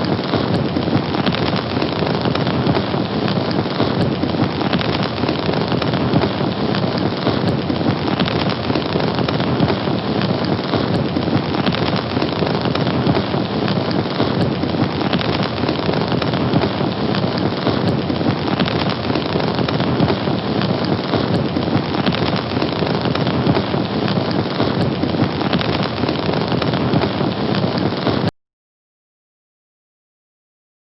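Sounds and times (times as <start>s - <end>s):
fire crackling: 0.0s - 28.3s.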